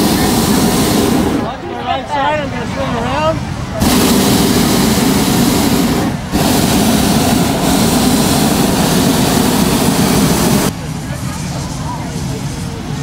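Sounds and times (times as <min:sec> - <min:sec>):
propane burner roaring: 0:00.0 - 0:13.0.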